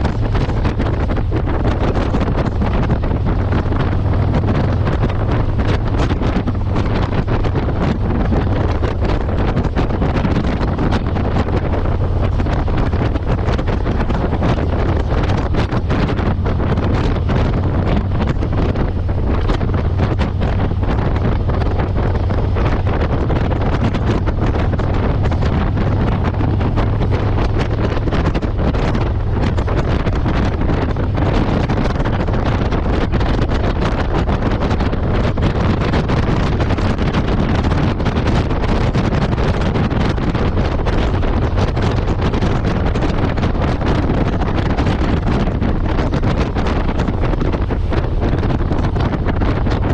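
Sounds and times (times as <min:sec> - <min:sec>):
motorcycle engine drone: 0:00.0 - 0:49.9
wind buffeting microphone: 0:00.0 - 0:49.9.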